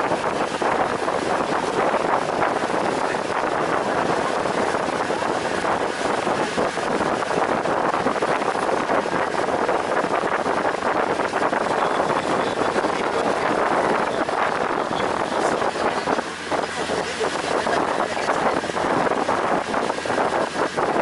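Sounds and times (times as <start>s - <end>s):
boat engine running: 0.0s - 21.0s
water along boat hull: 0.0s - 21.0s
wind on microphone: 0.0s - 21.0s.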